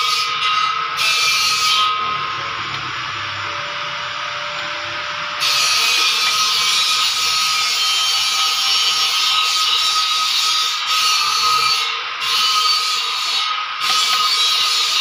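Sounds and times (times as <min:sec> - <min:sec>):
machine noise with high whine: 0:00.0 - 0:15.0.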